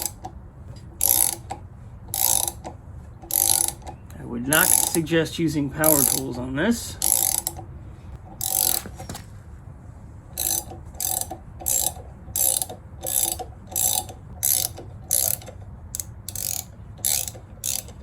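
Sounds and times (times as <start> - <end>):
hand ratchet clicking: 0.0 - 5.2, 5.8 - 7.7, 8.3 - 9.2, 10.4 - 18.0.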